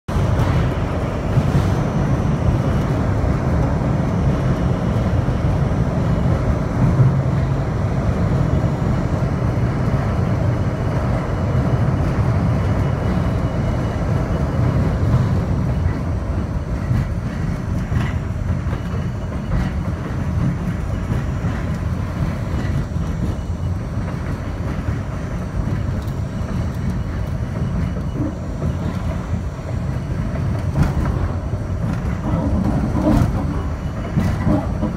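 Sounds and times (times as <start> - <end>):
subway train wheels rumbling: 0.1 - 34.9.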